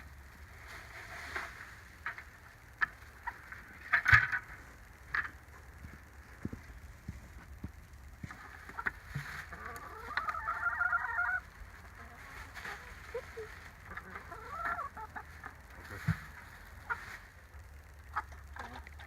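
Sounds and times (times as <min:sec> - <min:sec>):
chickens clucking: 0:00.4 - 0:19.0.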